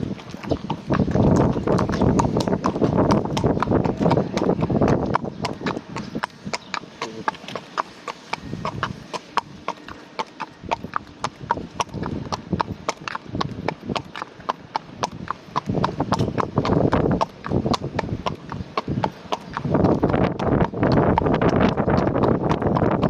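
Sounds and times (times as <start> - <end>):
horse hooves clopping: 0.0 - 23.0
wind buffeting microphone: 0.0 - 23.0.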